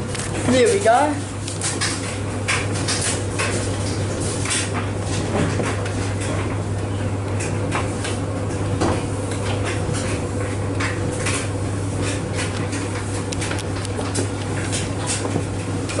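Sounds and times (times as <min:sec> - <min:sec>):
tumble dryer humming: 0:00.0 - 0:16.0.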